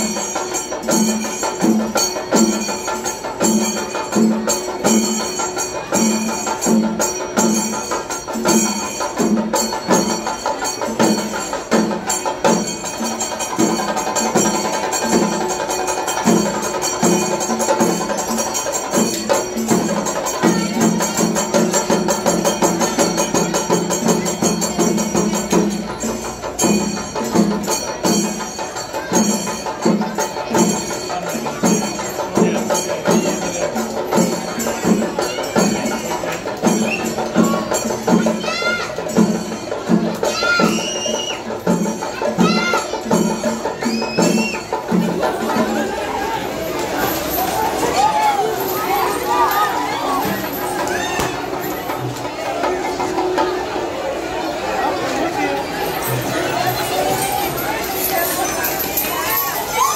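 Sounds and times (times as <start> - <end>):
clattering jingling percussion: 0.0 - 59.9.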